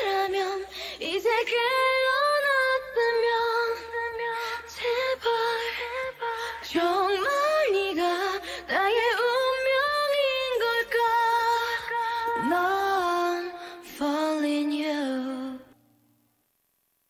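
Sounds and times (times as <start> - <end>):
woman singing slow melody: 0.0 - 15.8.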